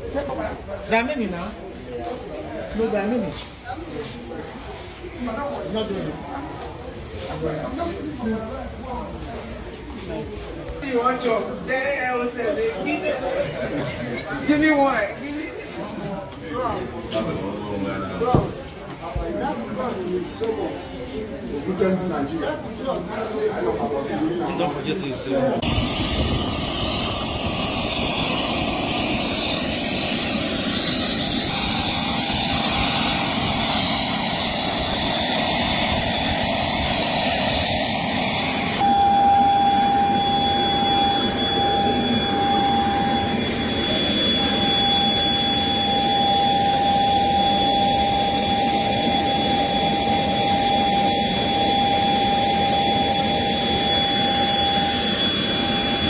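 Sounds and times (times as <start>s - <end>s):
jet turbine engines whining: 10.2s - 56.0s.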